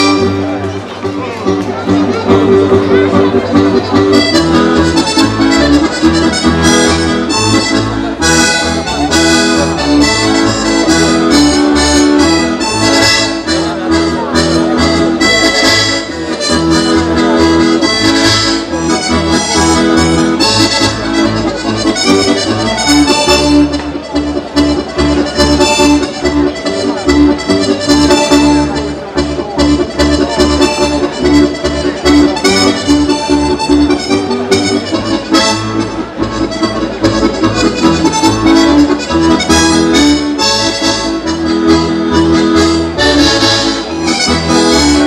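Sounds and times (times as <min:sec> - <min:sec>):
accordion folk dance tune: 0:00.0 - 0:45.0.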